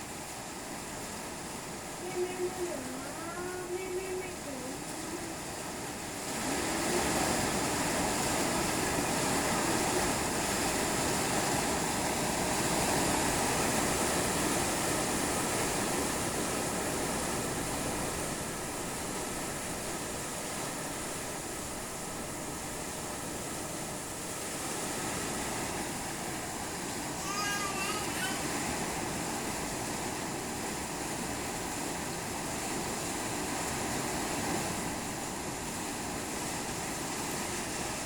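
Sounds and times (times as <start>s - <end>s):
heavy rain: 0.0s - 38.0s
strong wind: 0.0s - 38.0s.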